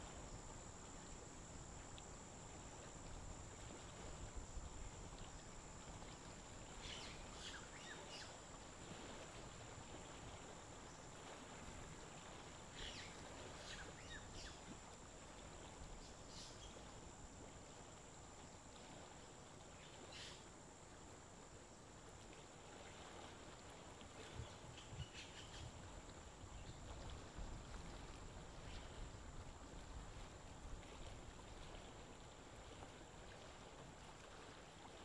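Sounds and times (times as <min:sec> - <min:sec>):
faint high-pitched whine: 0:00.0 - 0:35.0.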